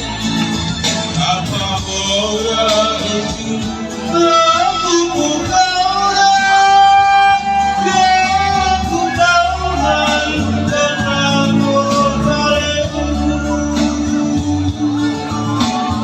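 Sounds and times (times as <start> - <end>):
guitar accompaniment: 0.0 - 16.0
person singing a ballad: 0.0 - 16.0.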